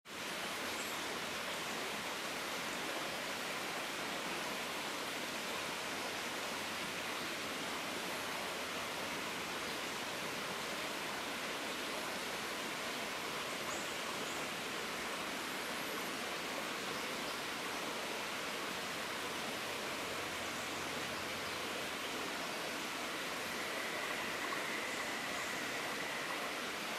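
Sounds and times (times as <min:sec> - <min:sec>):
creek water rushing: 0:00.1 - 0:26.9.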